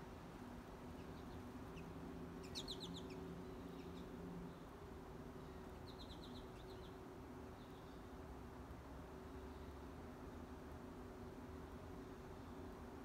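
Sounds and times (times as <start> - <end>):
faint low hum: 0.0 - 13.0
songbirds chirping: 0.0 - 13.0.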